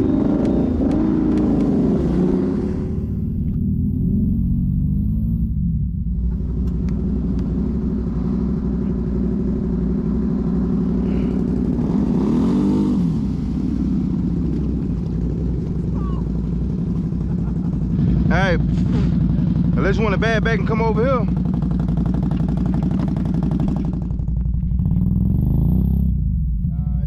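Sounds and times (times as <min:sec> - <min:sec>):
low rumble: 0:00.0 - 0:27.0
vehicle engine running and revving: 0:00.0 - 0:27.0.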